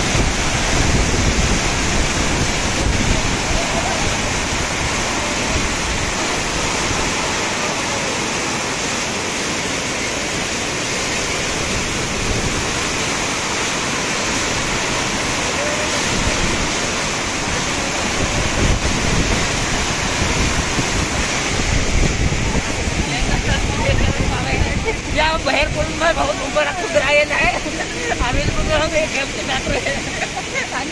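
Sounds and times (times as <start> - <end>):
river rushing in flood: 0.0 - 30.9.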